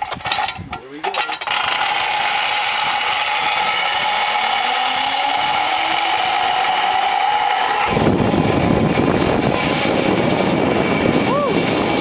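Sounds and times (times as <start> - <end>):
zipline pulleys whirring: 0.0 - 12.0.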